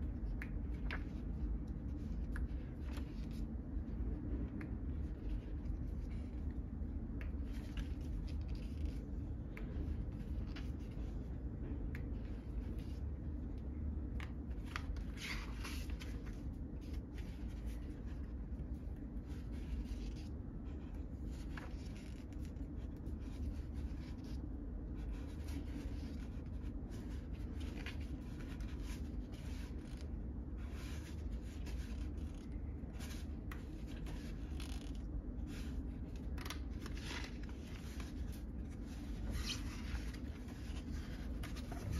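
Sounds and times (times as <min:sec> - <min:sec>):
paper pages rustling: 0:00.0 - 0:11.3, 0:12.0 - 0:13.5, 0:14.1 - 0:41.9.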